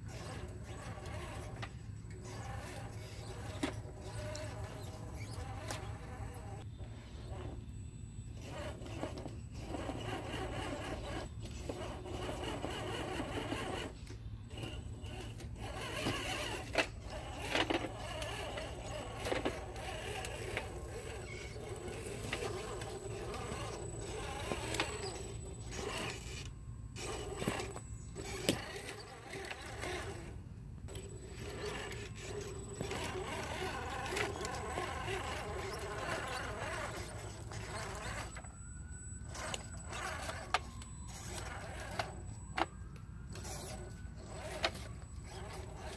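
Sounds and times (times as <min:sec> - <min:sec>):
toy truck electric motor whining: 0:00.0 - 0:45.9.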